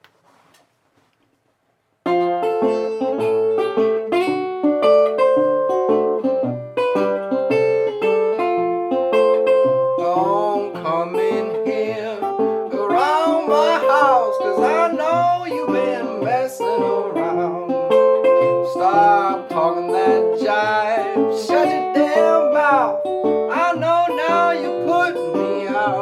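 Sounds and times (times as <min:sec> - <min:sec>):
guitar ragtime tune: 0:02.0 - 0:26.0.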